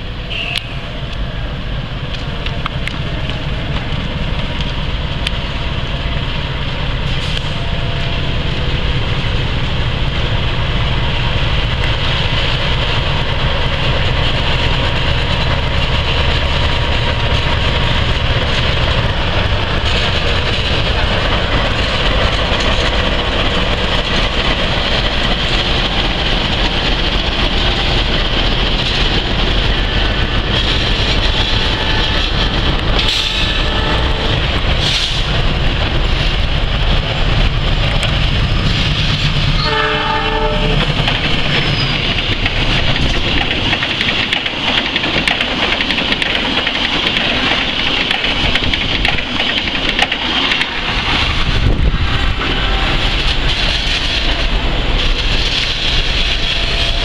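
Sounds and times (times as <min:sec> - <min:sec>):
locomotive engine running: 0:00.0 - 0:57.0
train wheels rumbling on rails: 0:00.0 - 0:57.0.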